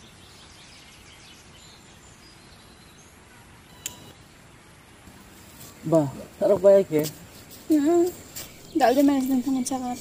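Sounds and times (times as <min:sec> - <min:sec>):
birds chirping: 0:00.0 - 0:10.0
low background hiss: 0:00.0 - 0:10.0.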